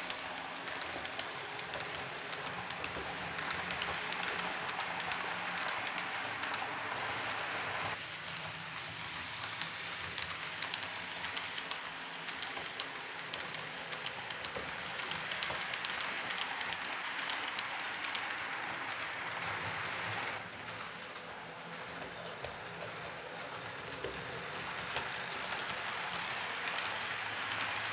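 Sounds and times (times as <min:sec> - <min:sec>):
model train rattling on track: 0:00.0 - 0:27.9.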